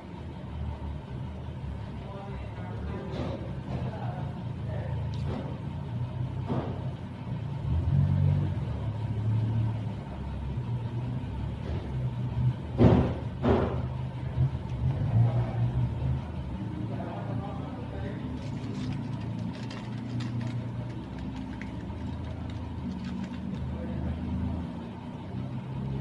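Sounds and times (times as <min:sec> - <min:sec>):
low engine-like rumble: 0:00.0 - 0:26.0.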